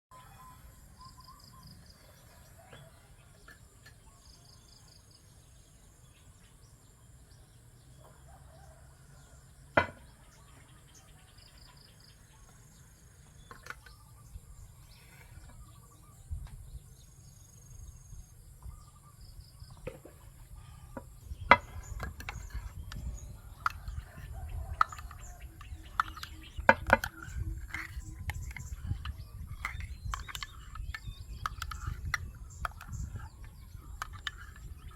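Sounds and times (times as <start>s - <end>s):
small birds chirping and whistling: 0.1s - 6.9s, 10.3s - 34.9s.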